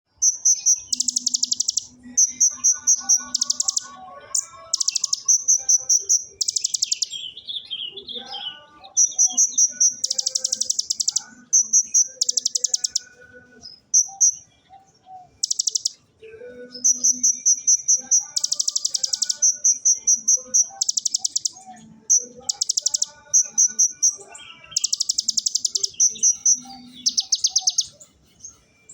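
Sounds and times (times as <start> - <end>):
bird singing rattling trills: 0.1 - 28.9.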